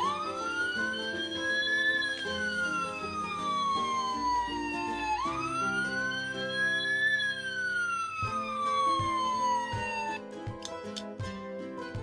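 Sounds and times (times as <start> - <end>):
electronic siren wailing: 0.0 - 10.2
background music: 0.0 - 12.0.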